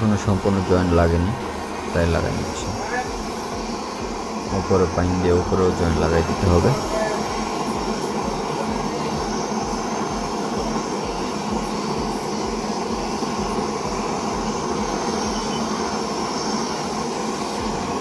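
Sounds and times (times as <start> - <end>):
torch flame hissing: 0.0 - 18.0.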